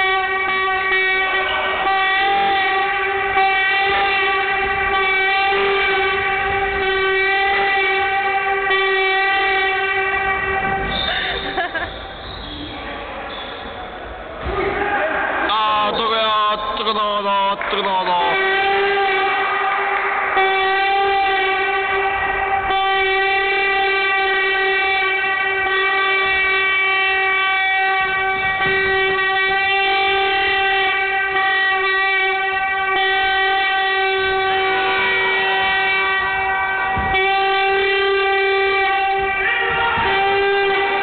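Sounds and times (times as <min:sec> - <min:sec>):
horn blowing long steady note: 0:00.0 - 0:41.0.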